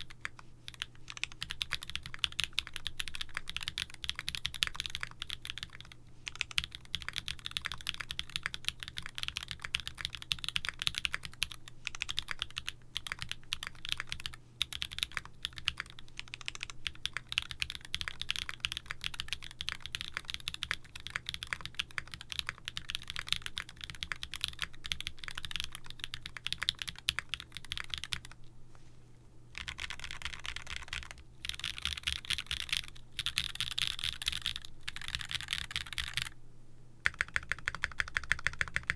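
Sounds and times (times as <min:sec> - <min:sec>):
mechanical keyboard typing: 0:00.0 - 0:28.4, 0:29.6 - 0:36.3, 0:37.0 - 0:38.9.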